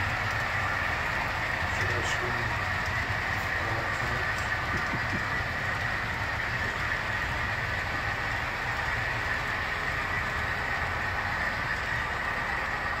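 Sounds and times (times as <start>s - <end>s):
model train wheels rumbling on rails: 0.0s - 13.0s.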